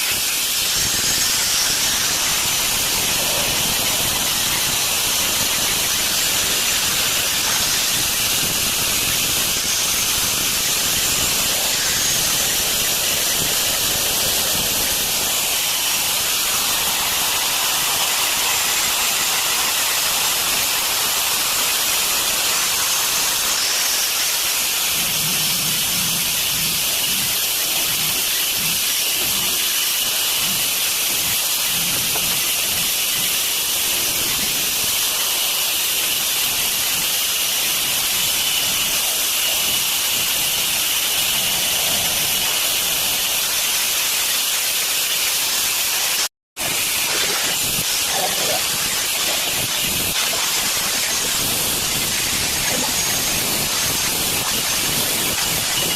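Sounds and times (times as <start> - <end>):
water running from tap: 0.0 - 55.9.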